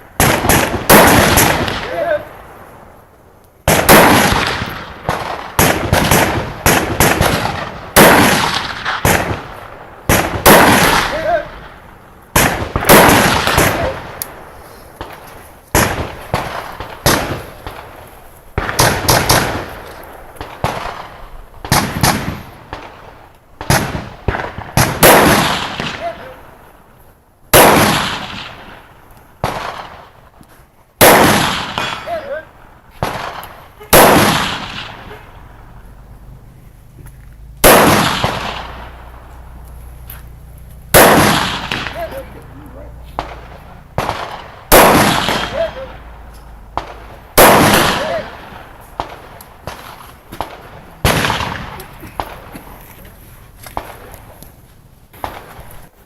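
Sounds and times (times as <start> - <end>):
rifle shots echoing: 0.0 - 26.9, 27.5 - 30.4, 31.0 - 52.7, 53.7 - 54.4, 55.1 - 55.8.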